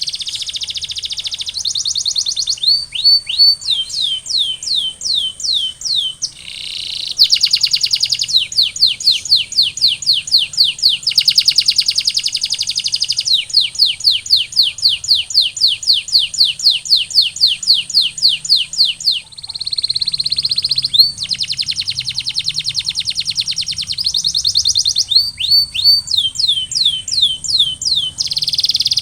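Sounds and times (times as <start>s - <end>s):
canary buzzy trill: 0.0s - 29.0s
canary whistled notes: 0.0s - 29.0s.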